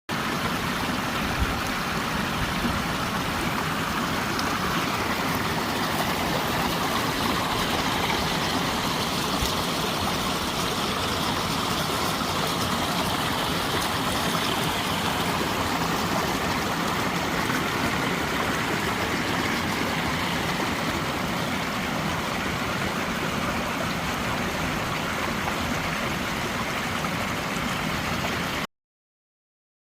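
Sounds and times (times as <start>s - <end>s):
stream flowing over rocks: 0.1s - 28.7s.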